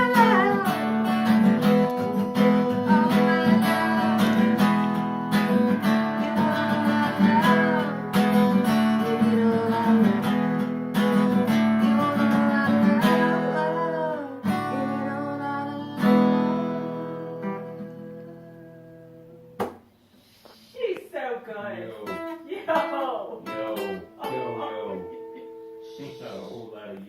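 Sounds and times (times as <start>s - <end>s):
acoustic guitar strumming: 0.0s - 20.1s, 21.8s - 26.9s.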